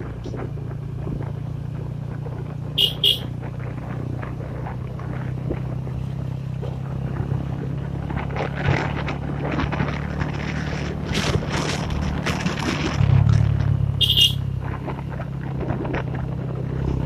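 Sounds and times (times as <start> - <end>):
motorbike engine humming: 0.0 - 17.0.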